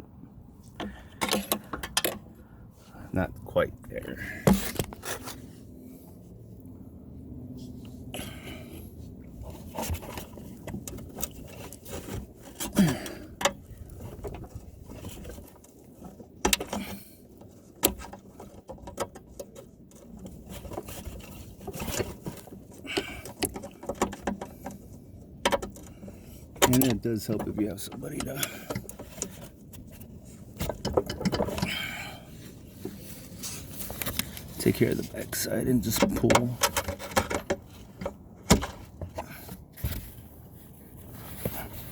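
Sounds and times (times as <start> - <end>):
hand tools scraping plastic: 4.3 - 5.5, 9.4 - 41.9.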